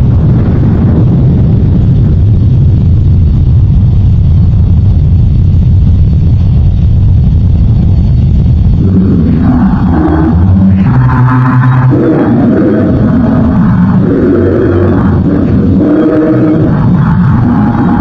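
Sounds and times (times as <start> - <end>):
loud low rumble: 0.0 - 18.0
noisy hiss: 0.0 - 18.0.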